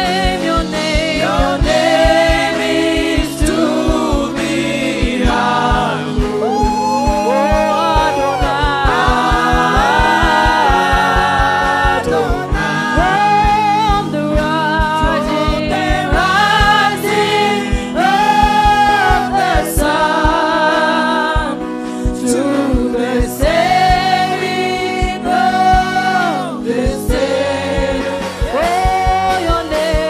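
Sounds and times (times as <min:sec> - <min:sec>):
band with steady drum beat: 0:00.0 - 0:30.0
voices singing gospel song: 0:00.0 - 0:30.0.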